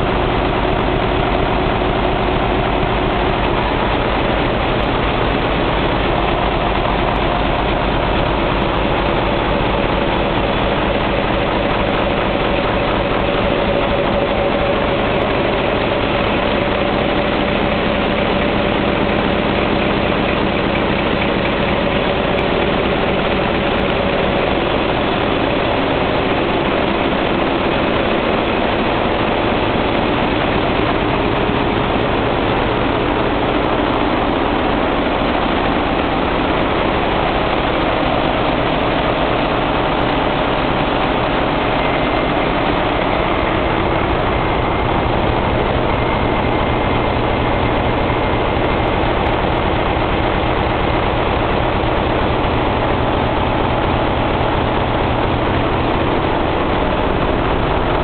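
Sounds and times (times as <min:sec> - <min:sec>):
diesel generator engines running: 0:00.0 - 0:58.0.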